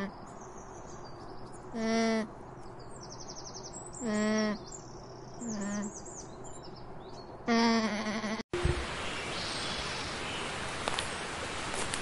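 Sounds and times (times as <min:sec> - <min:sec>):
birds chirping and trilling: 0:00.0 - 0:07.8, 0:08.6 - 0:10.8.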